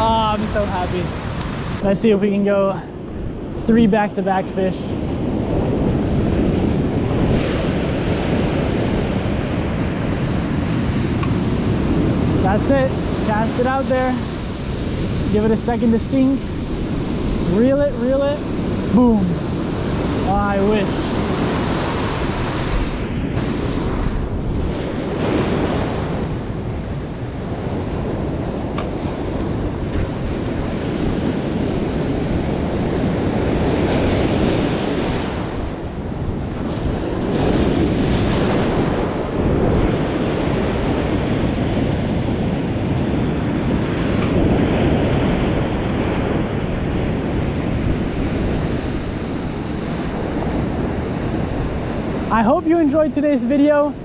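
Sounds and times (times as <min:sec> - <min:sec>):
ocean surf breaking: 0:00.0 - 0:54.0
wind buffeting microphone: 0:00.0 - 0:54.0.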